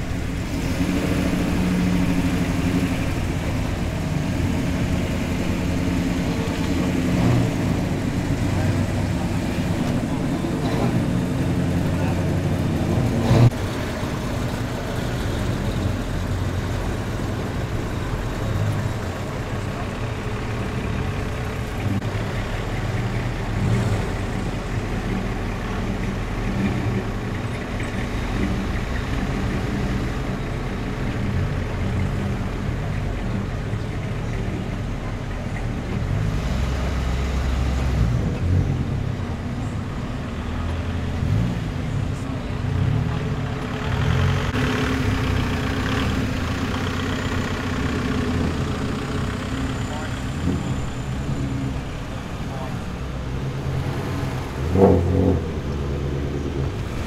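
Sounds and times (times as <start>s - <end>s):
car engines passing slowly: 0.0s - 57.0s.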